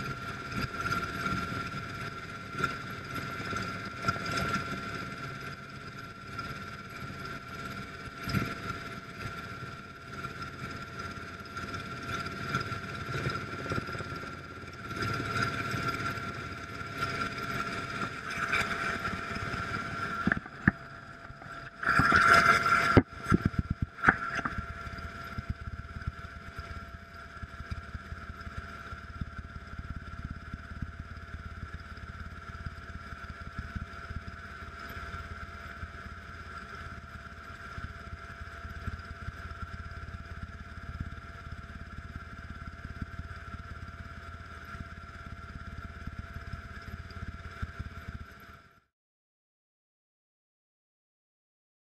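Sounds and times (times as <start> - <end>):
rotor and airflow rumble: 0.0 - 48.6
helicopter turbine whine: 0.0 - 48.8.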